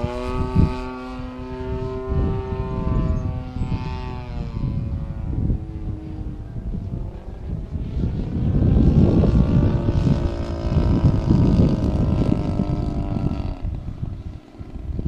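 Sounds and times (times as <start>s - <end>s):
model plane engine and propeller: 0.0s - 15.0s
wind rumbling on microphone: 0.0s - 15.0s.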